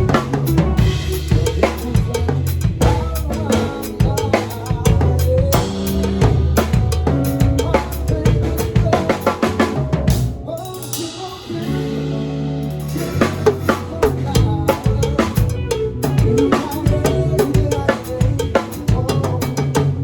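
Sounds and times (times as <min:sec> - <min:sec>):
deep sustained bass notes: 0:00.0 - 0:10.6, 0:11.5 - 0:20.0
drum kit: 0:00.0 - 0:20.0.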